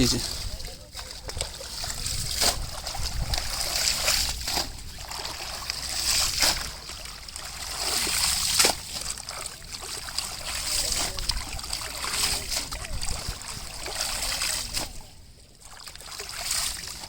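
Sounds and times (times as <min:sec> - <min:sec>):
water splashing in shallow water: 0:00.0 - 0:17.0
water trickling: 0:00.0 - 0:17.0.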